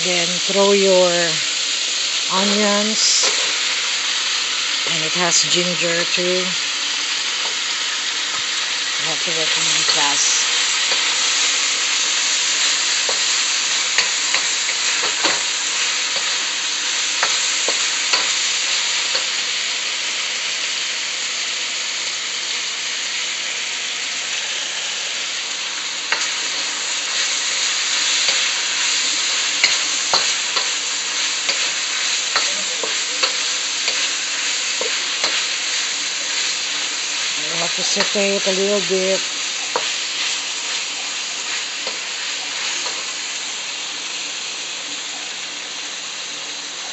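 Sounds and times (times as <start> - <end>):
beef and onions sizzling in a wok: 0.0 - 46.9.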